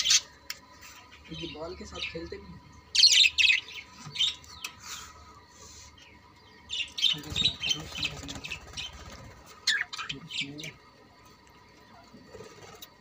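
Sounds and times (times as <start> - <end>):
budgerigars chirping and chattering: 0.0 - 10.8.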